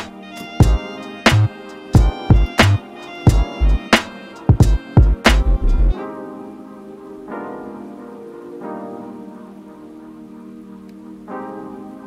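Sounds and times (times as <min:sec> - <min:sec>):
background music held chords: 0:00.0 - 0:12.0.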